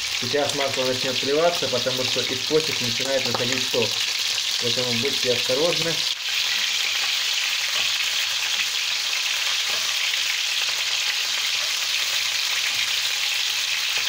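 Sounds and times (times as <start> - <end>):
kidneys sizzling in oil: 0.0 - 14.0.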